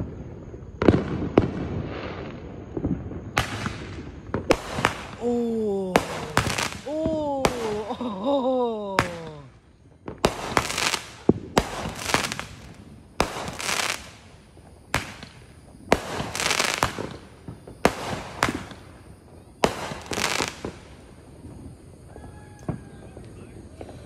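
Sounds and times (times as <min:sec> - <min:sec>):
fireworks bangs with hiss: 0:00.0 - 0:08.0, 0:09.0 - 0:24.0.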